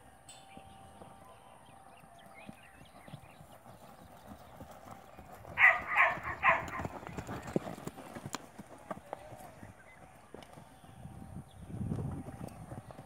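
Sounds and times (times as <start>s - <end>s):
hoofbeats on dirt: 0.0s - 13.0s.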